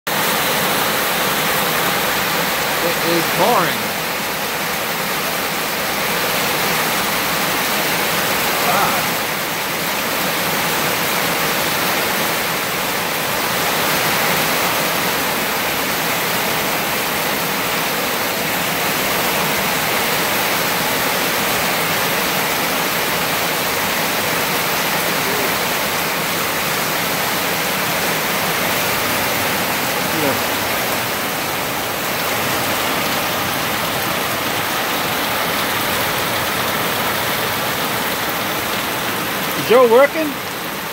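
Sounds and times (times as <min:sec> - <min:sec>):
heavy rain pouring: 0:00.1 - 0:40.9
water running off roof: 0:00.1 - 0:40.9.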